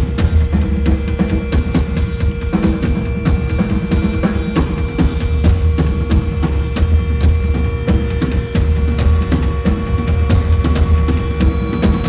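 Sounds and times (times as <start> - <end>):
drum kit beating: 0.0 - 12.0
heavy bass from keyboards: 0.0 - 12.0
held drone tone: 0.0 - 12.0.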